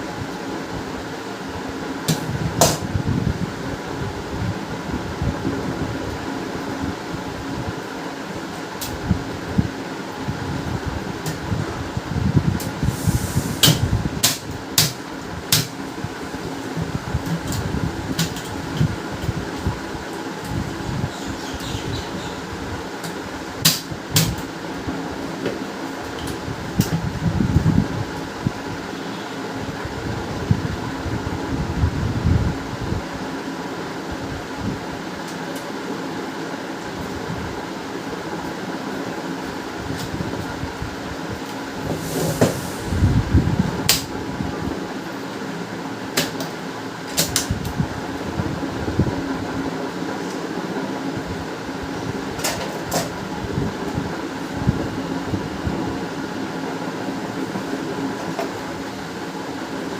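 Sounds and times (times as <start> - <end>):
room fan humming: 0.0 - 59.9.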